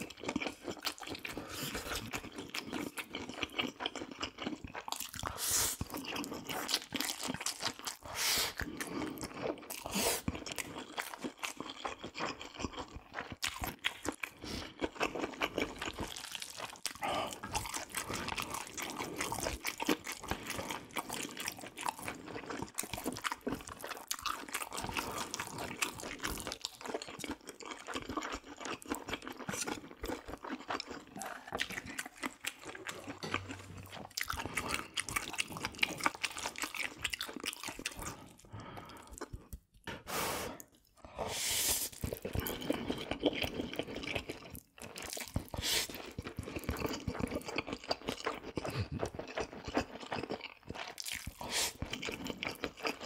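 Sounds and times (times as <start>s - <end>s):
person chewing and biting: 0.0s - 41.1s, 41.7s - 53.0s
crunching mouth sounds: 0.0s - 53.0s.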